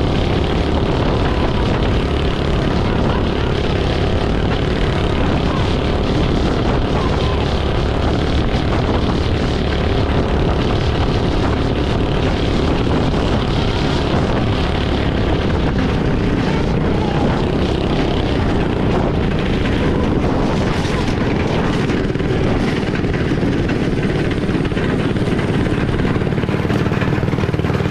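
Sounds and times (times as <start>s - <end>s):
small engine running steadily: 0.0s - 27.9s.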